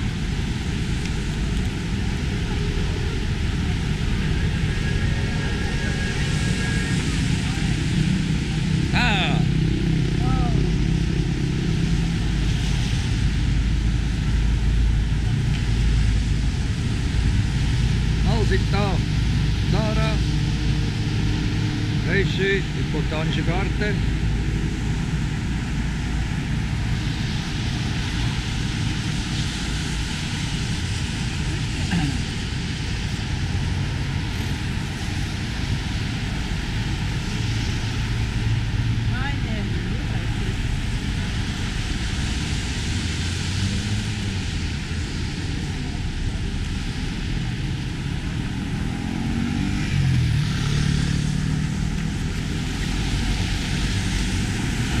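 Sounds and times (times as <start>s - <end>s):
low rumble of engines: 0.0s - 55.0s
tyres hissing on wet road: 0.0s - 55.0s.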